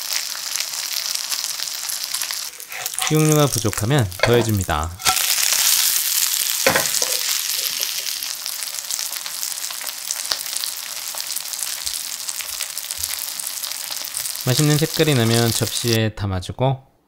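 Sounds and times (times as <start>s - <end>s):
hot oil sizzling and crackling: 0.0s - 16.0s.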